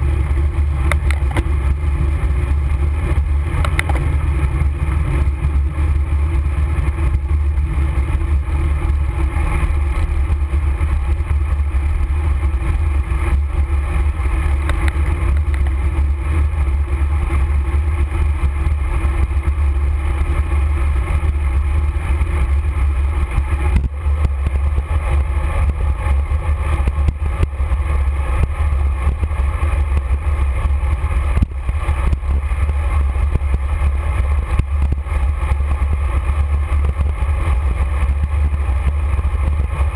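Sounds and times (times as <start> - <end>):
tyres rumbling on asphalt: 0.0 - 39.9.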